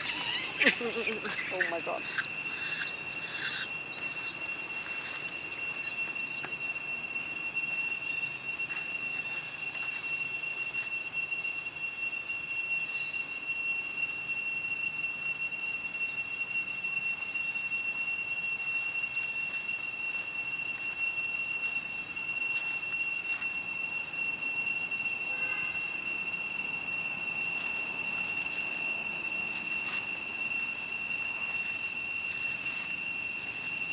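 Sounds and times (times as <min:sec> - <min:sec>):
high-pitched insect drone: 0:00.0 - 0:33.9.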